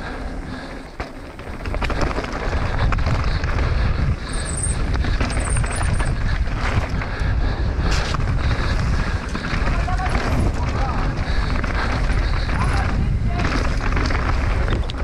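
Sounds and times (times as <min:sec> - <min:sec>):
bike rattling and knocking: 0:00.0 - 0:15.0
tyres rumbling on dirt: 0:00.0 - 0:15.0
wind buffeting microphone: 0:01.4 - 0:15.0.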